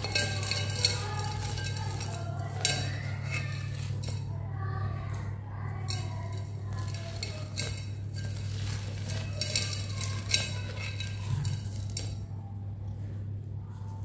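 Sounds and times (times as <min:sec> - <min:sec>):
gritty crunching and sifting: 0:00.0 - 0:12.4
steady low hum: 0:00.0 - 0:14.0.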